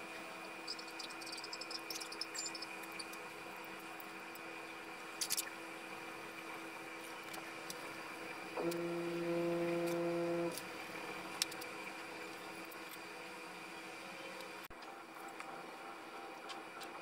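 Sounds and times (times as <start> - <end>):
steady electric hum: 0.0 - 17.0.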